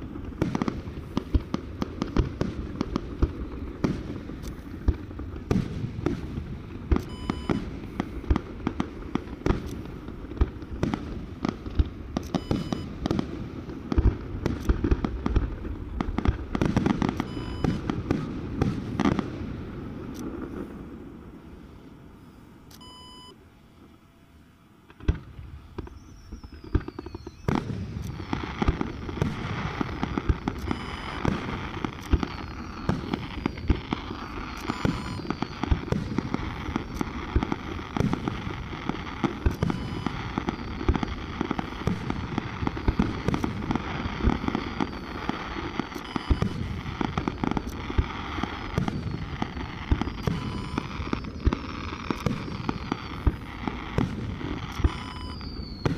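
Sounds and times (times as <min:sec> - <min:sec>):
falling firework whistle: 0:00.0 - 0:15.4, 0:16.0 - 0:19.4, 0:21.4 - 0:55.9
aerial shell bursts and crackling: 0:00.0 - 0:22.8, 0:24.8 - 0:55.9
firework bangs: 0:00.0 - 0:23.2, 0:24.8 - 0:55.9.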